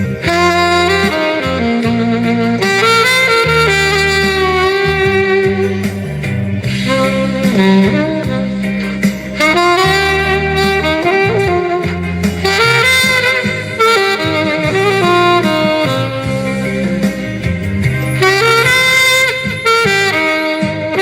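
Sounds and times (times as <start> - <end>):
bass line: 0.0 - 21.0
saxophone melody over accompaniment: 0.0 - 21.0.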